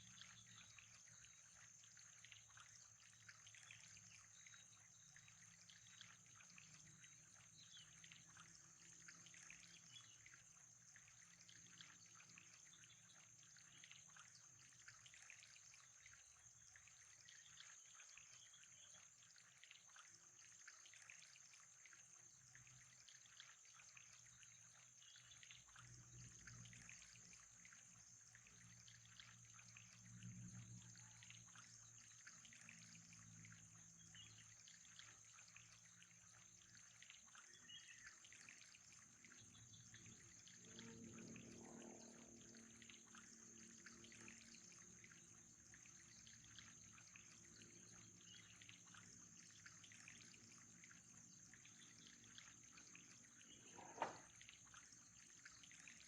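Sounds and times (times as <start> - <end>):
faint trickling water: 0.0 - 56.0.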